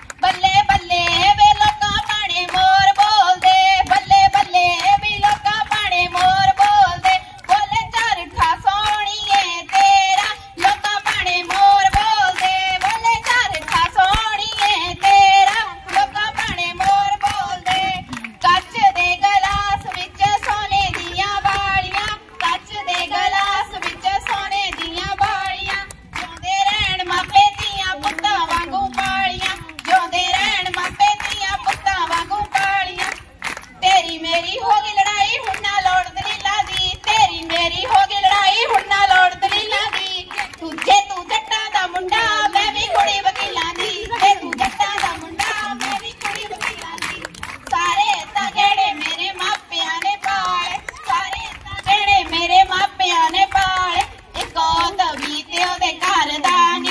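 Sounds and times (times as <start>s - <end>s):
girls singing together: 0.0s - 56.9s
rhythmic hand-clapping: 0.0s - 56.9s.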